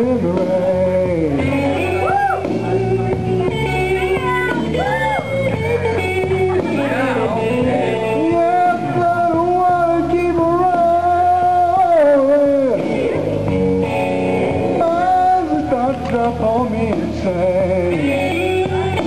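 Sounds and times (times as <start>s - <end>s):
slow blues guitar music: 0.0s - 19.0s.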